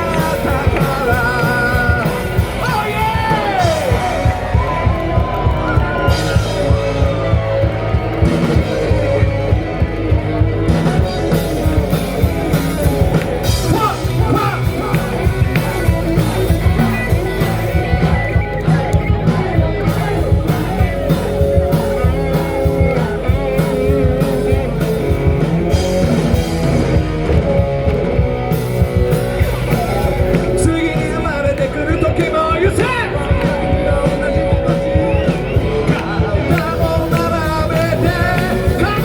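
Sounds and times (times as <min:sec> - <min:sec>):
person singing: 0:00.0 - 0:10.1, 0:13.1 - 0:25.4, 0:29.4 - 0:39.0
live rock band playing: 0:00.0 - 0:39.0.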